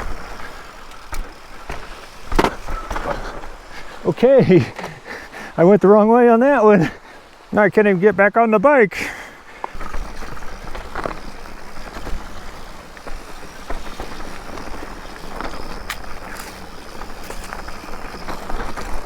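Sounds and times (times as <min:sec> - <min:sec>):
bike tyres on dirt trail: 0:00.0 - 0:19.0.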